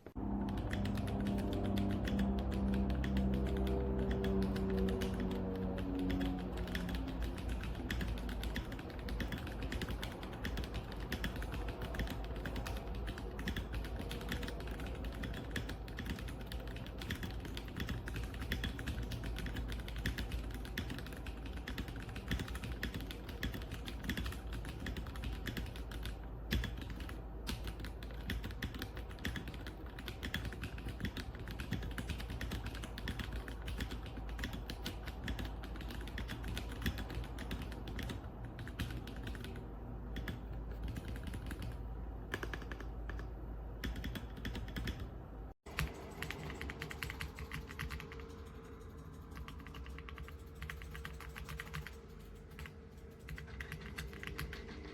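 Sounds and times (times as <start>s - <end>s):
mechanical keyboard typing: 0.0s - 54.9s.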